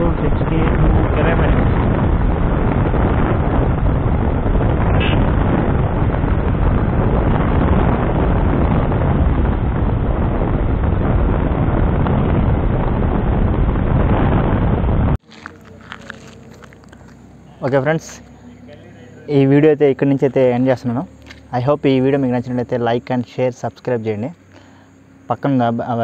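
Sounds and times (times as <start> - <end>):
wind rushing over microphone: 0.0 - 25.4
road and engine noise: 0.0 - 26.0.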